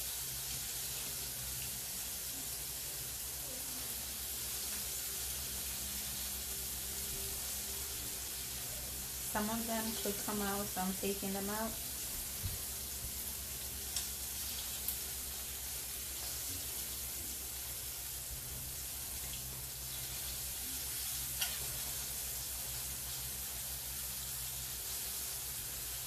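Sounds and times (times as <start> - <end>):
shrimp sizzling in hot oil: 0.0 - 26.0.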